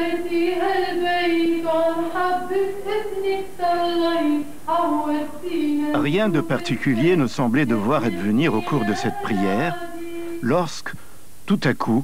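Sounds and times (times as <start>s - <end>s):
women and children singing a hymn: 0.0s - 10.6s.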